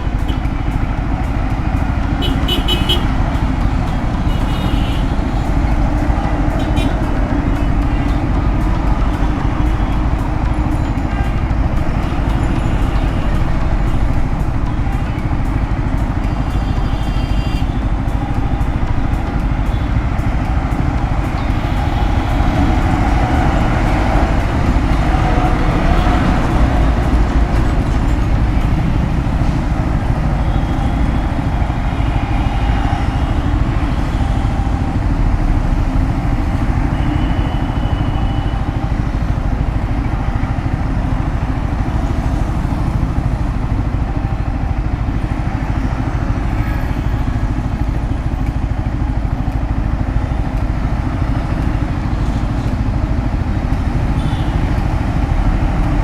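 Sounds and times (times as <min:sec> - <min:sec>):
motorcycle engine running: 0:00.0 - 0:56.0
traffic: 0:00.0 - 0:56.0.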